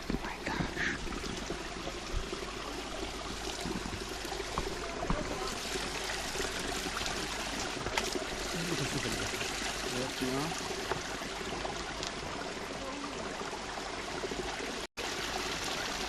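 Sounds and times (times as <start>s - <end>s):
spring water trickling: 0.0s - 16.0s.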